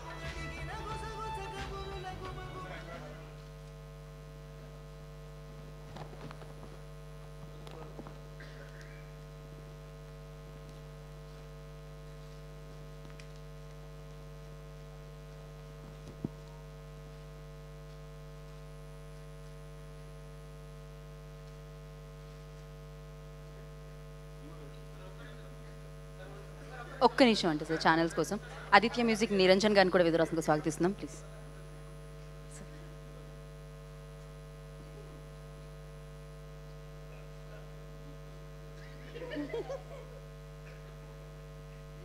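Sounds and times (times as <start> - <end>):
electrical mains hum: 0.0 - 42.0.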